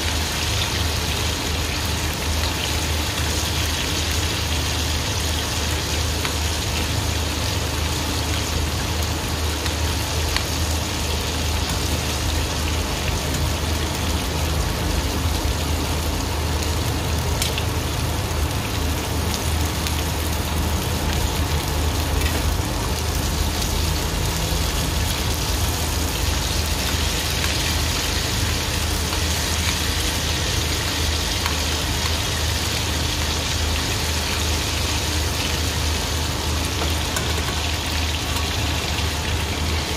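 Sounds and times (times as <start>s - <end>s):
food sizzling in frying pan: 0.0s - 39.9s.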